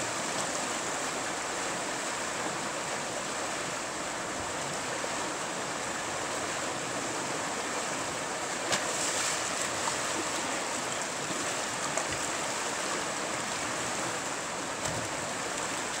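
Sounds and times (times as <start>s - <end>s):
water rushing over rapids: 0.0s - 16.0s.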